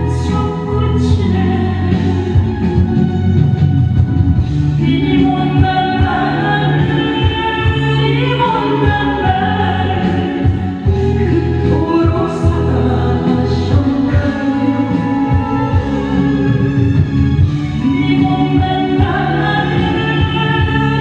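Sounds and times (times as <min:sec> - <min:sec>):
woman singing into a microphone: 0:00.0 - 0:03.2, 0:04.8 - 0:21.0
instrumental accompaniment with bass: 0:00.0 - 0:21.0.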